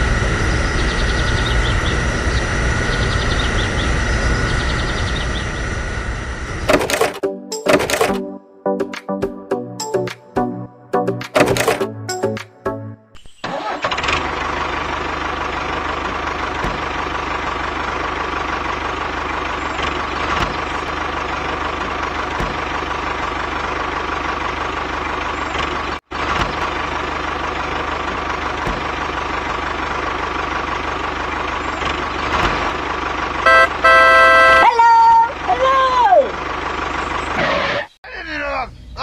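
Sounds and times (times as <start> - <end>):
machine engine humming and whining: 0.0 - 8.2, 13.4 - 37.9.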